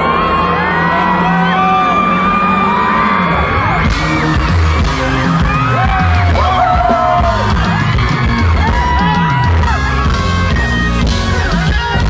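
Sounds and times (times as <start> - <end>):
fans screaming: 0.0 - 12.0
live pop music: 0.0 - 12.0.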